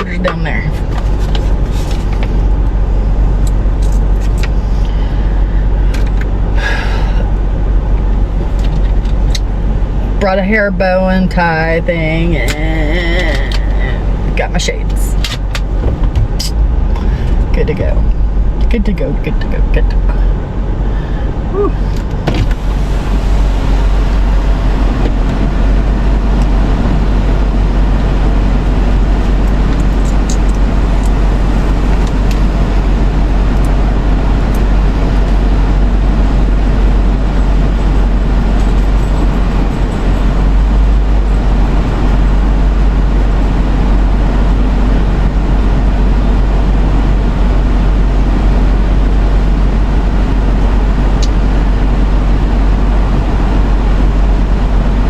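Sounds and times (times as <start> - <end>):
deep rumble inside car cabin: 0.0 - 55.0.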